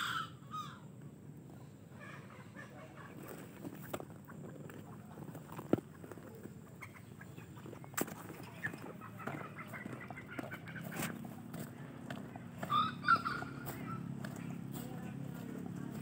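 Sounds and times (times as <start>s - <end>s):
chickens clucking faintly: 0.0s - 16.0s.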